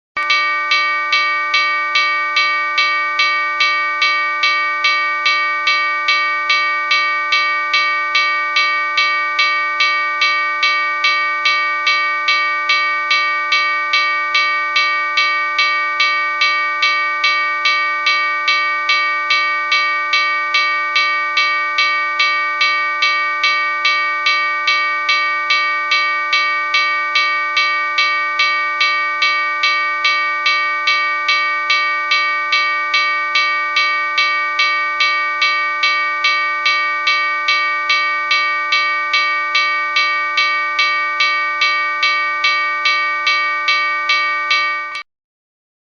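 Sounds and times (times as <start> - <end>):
railroad crossing bell ringing: 0.2 - 45.0.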